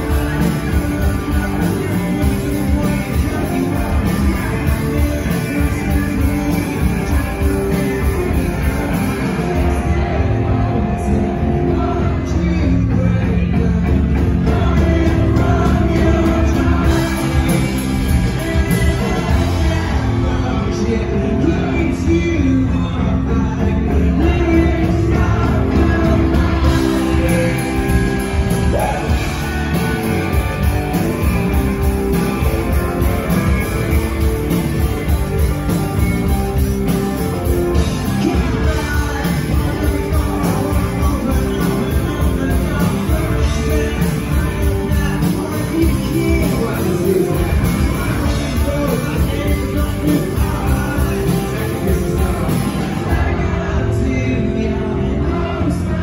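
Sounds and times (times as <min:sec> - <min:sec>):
man singing: 0:00.0 - 0:56.0
rock band playing: 0:00.0 - 0:56.0.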